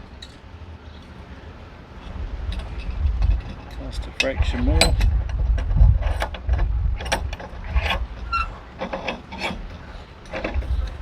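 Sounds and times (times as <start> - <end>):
metal clicks and scrapes: 2.0 - 11.0.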